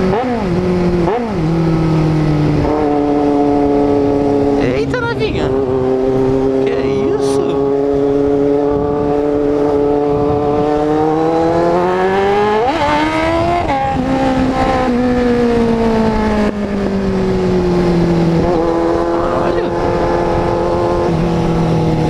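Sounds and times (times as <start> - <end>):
motorcycle engine accelerating: 0.0 - 22.0
wind rush: 0.0 - 22.0.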